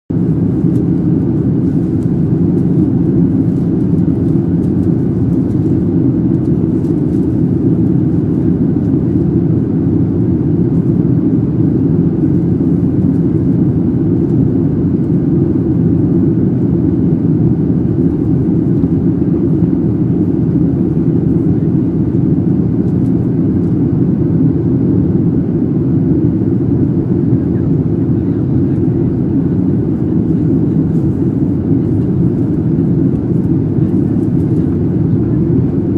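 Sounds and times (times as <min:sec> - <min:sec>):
airplane cabin engine noise: 0:00.1 - 0:35.9.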